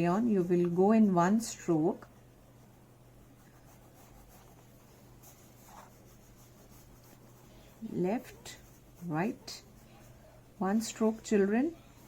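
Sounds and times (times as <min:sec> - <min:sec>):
crayon scratching on paper: 0:00.0 - 0:12.0
low steady hum: 0:00.0 - 0:12.0.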